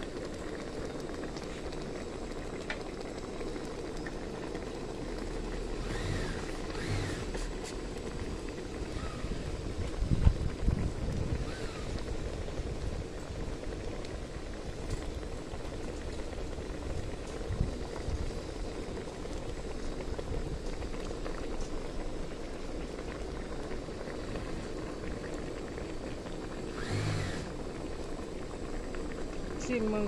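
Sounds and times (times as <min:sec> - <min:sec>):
curry bubbling in a pot: 0:00.0 - 0:30.0.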